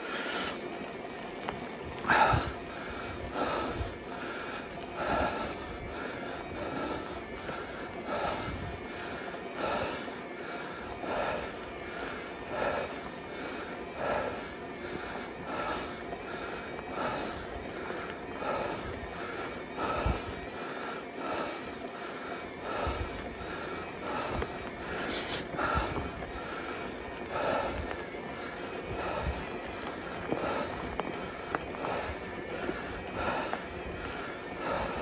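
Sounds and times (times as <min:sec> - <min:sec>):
cyclist breathing hard: 0:00.0 - 0:35.0
wind and road noise: 0:00.0 - 0:35.0.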